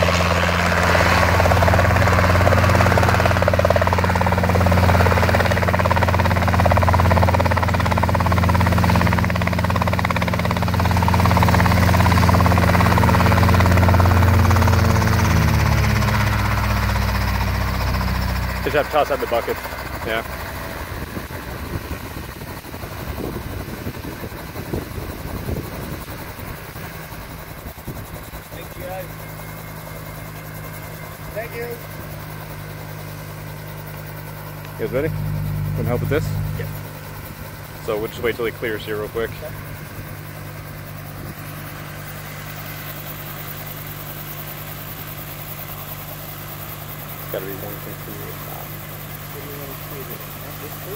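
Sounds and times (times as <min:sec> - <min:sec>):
helicopter idling: 0:00.0 - 0:50.9.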